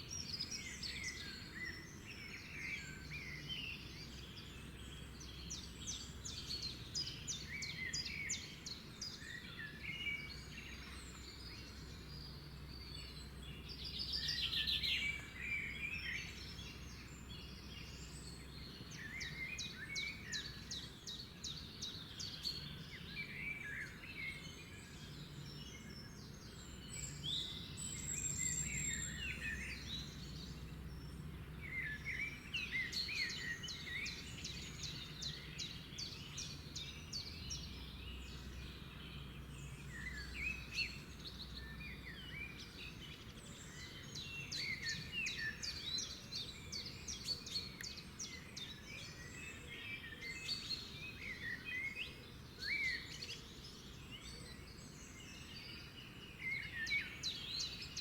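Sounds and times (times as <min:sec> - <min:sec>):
faint outdoor background hum: 0:00.0 - 0:58.0
songbirds singing: 0:00.0 - 0:58.0.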